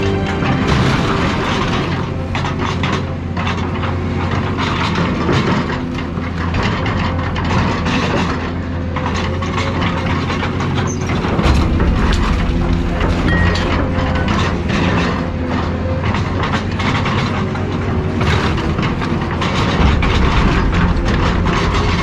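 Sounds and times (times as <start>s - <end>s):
diesel engine under load: 0.0s - 22.0s
metal crunching and clanking: 0.0s - 22.0s.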